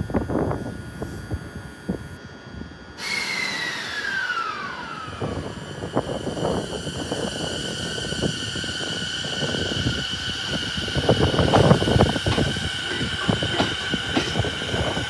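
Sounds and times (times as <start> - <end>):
train inverter whining: 0.0 - 15.0.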